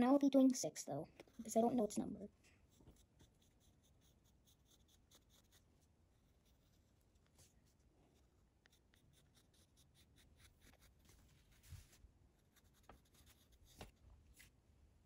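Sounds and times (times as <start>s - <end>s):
pencil scratching on paper: 1.2s - 13.9s.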